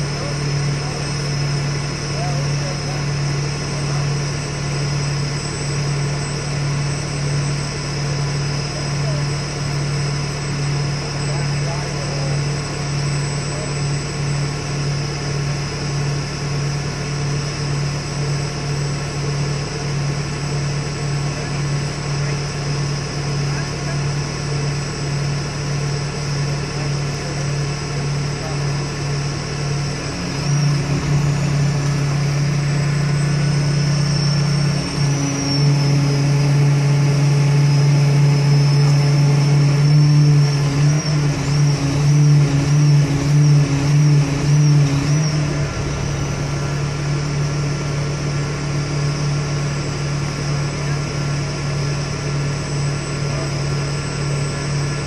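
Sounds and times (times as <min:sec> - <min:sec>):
crane engine running: 0:00.0 - 0:55.0.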